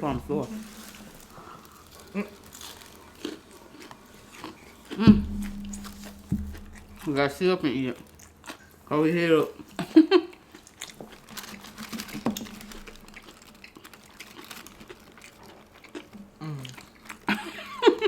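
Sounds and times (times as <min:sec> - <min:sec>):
chewing and mouth sounds: 0:00.0 - 0:18.0.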